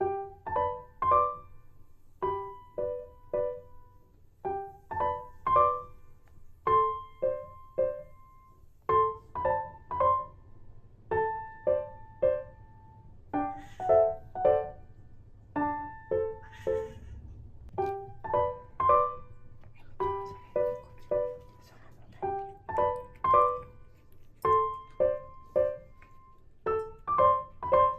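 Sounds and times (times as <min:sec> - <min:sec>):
slow gentle piano melody: 0:00.0 - 0:27.9.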